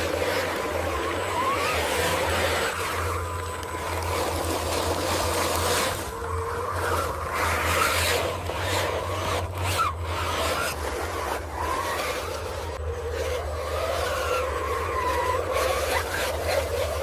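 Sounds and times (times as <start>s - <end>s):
gritty scraping and rubbing: 0.0s - 17.0s
toy motor whine: 0.0s - 17.0s.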